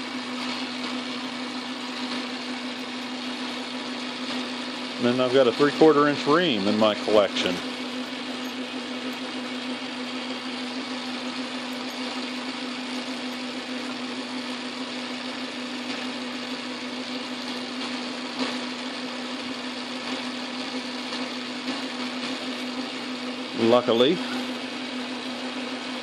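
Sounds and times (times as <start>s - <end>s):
drill boring into metal: 0.0s - 26.0s
metal lathe humming: 0.0s - 26.0s.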